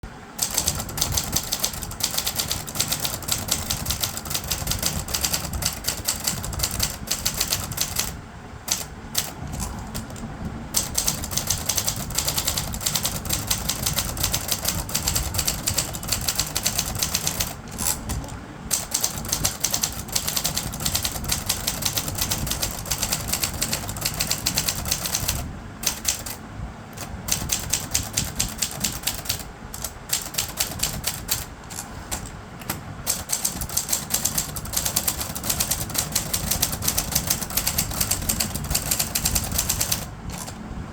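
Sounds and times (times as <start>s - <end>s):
manual typewriter typing: 0.4s - 40.6s.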